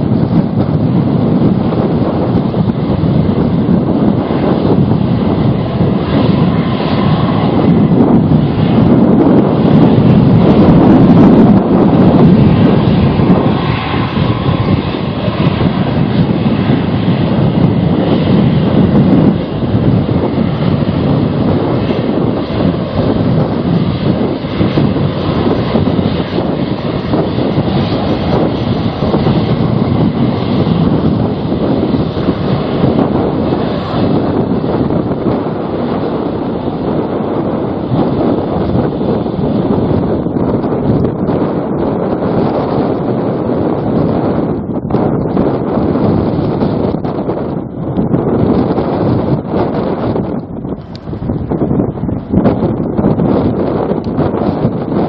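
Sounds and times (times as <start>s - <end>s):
airliner engines rumbling: 0.0s - 55.0s
wind buffeting microphone: 0.0s - 55.0s.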